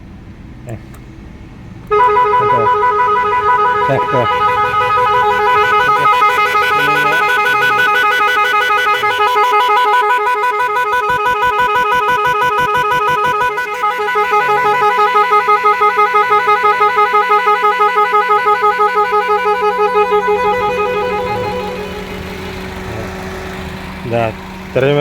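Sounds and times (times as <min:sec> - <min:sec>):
electronic car horn warbling: 0:01.9 - 0:25.0.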